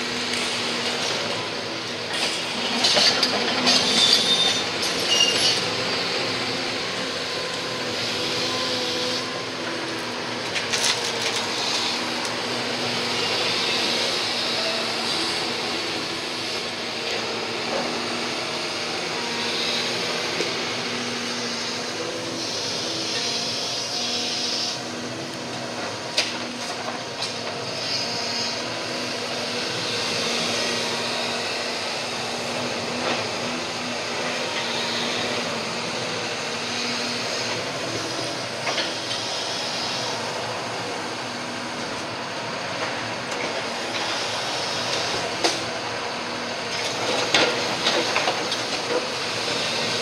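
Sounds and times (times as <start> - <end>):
excavator diesel engine: 0.0 - 50.0.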